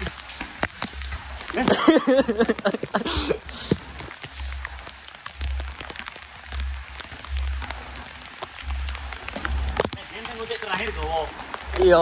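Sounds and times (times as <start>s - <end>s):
rain on standing water: 0.0s - 12.0s
low rumble: 2.3s - 12.0s.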